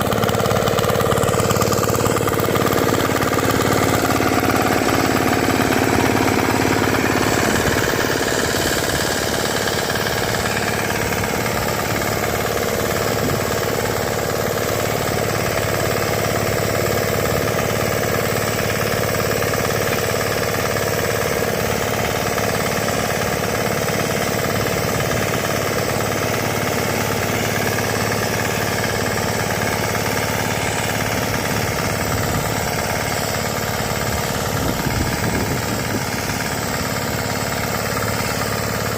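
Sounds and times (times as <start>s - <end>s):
small tractor engine knocking: 0.0s - 38.9s.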